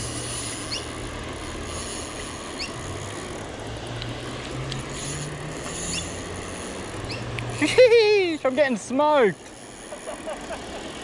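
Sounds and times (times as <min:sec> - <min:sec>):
fishing reel drag clicking: 0:00.0 - 0:10.9.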